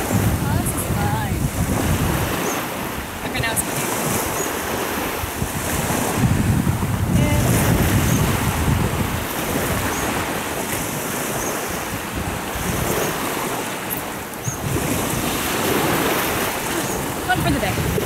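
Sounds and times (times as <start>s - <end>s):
small waves washing on shore: 0.0s - 18.0s
wind buffeting microphone: 0.0s - 18.0s.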